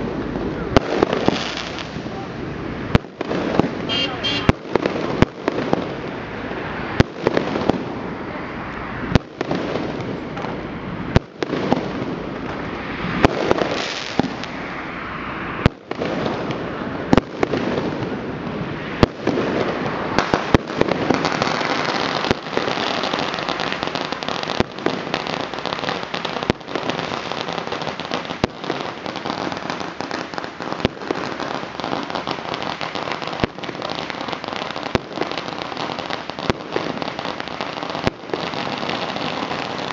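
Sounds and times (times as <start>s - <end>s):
firecrackers crackling: 0.0s - 39.9s
fireworks bangs: 0.0s - 39.9s.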